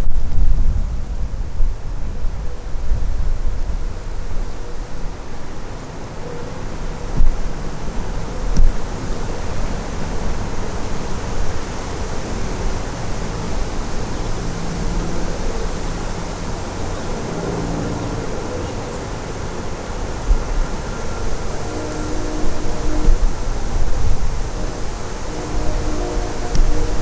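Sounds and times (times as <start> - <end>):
strong wind through trees: 0.0 - 27.0
wind gusts rumbling on microphone: 0.0 - 27.0.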